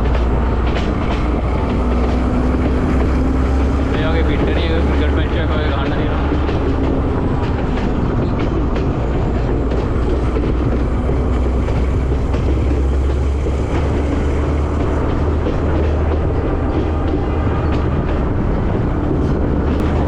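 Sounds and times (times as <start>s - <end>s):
train carriage rumble: 0.0s - 20.0s
wheels clicking on track: 0.0s - 20.0s.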